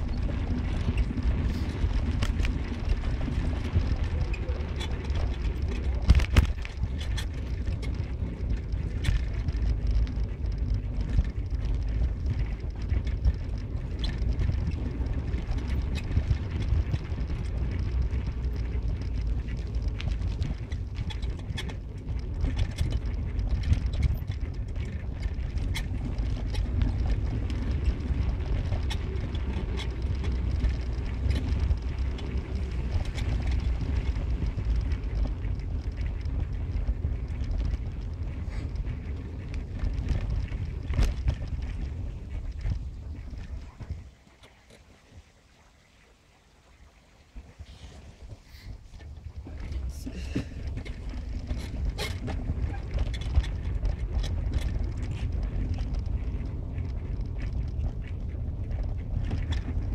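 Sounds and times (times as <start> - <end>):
small knocks and clicks: 0.0 - 45.2, 48.2 - 59.9
car road and engine rumble: 0.0 - 59.9.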